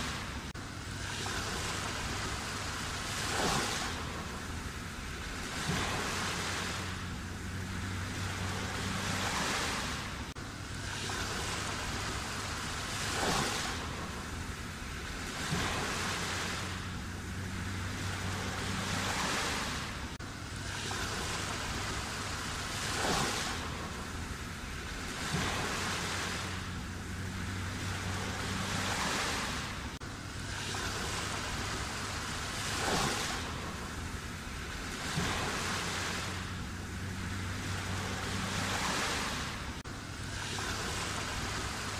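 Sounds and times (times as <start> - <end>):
sharp water splash: 0.0 - 41.9
waves breaking on shore: 0.0 - 41.9.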